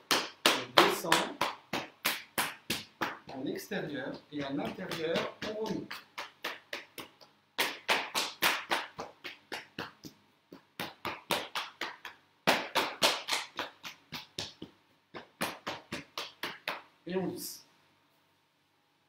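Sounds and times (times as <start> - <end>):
hands tapping on legs: 0.0 - 16.9.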